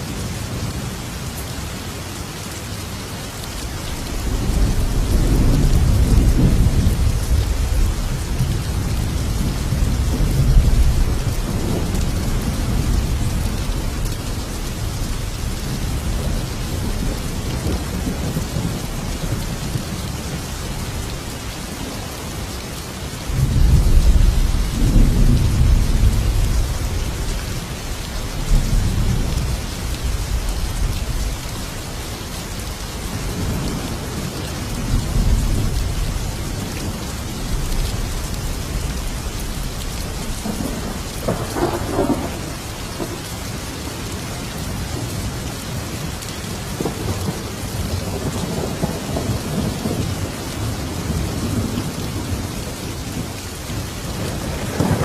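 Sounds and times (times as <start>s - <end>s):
heavy rain: 0.0s - 55.0s
thunder rumbling: 3.9s - 21.3s, 23.3s - 31.8s, 33.0s - 55.0s.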